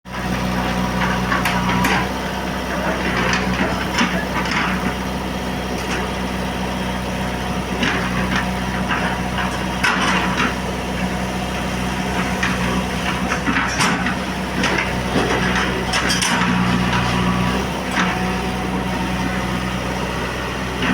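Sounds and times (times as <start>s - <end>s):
diesel engine running: 0.1s - 20.9s.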